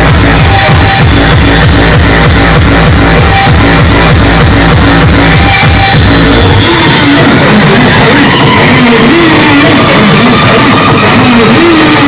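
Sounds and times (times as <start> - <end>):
loud hardcore techno music: 0.0 - 12.0.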